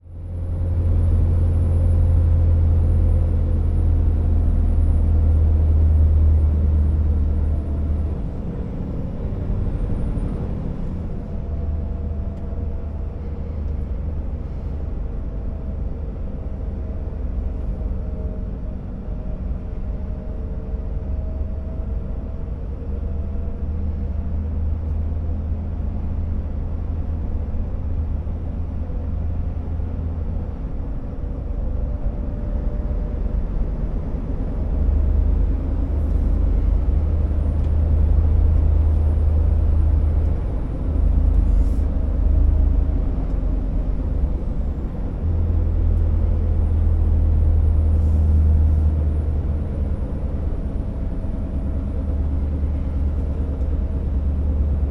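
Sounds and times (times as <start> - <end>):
truck diesel engine under load: 0.0 - 54.9.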